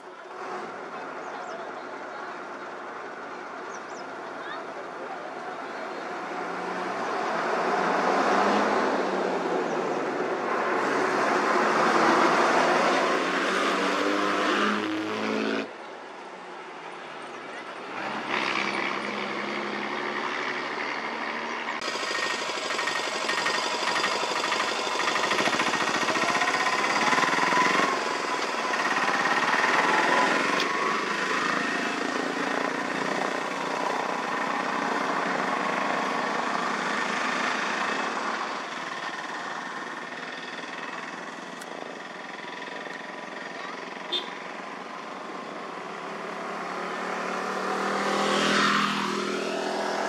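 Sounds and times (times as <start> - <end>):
auto-rickshaw engine: 0.0 - 50.0
road traffic: 0.0 - 50.0.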